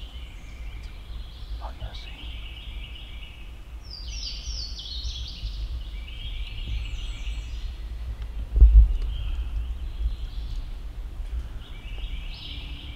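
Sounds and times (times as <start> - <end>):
low wind rumble: 0.0 - 12.9.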